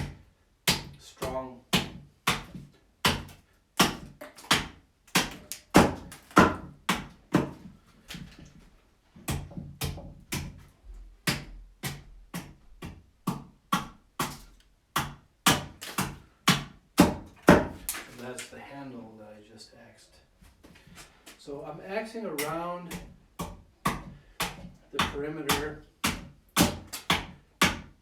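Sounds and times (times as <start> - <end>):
axe chopping wood: 0.0 - 8.2, 9.3 - 18.0, 22.4 - 28.0.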